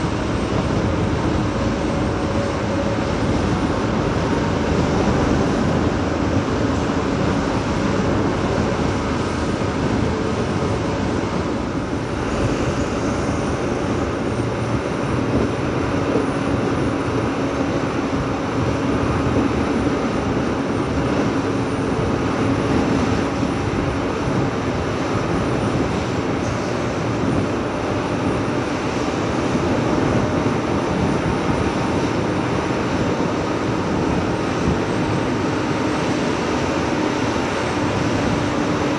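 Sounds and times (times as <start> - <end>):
diesel machinery engine drone: 0.0 - 38.9.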